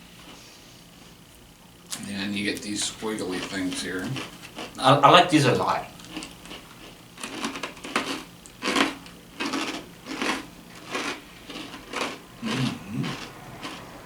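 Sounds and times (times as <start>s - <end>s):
person chewing crackers: 0.2s - 14.0s.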